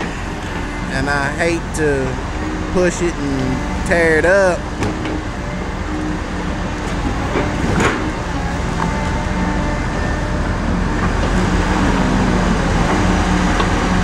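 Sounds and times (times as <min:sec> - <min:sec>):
diesel engine and hydraulics rumbling: 0:00.0 - 0:14.0.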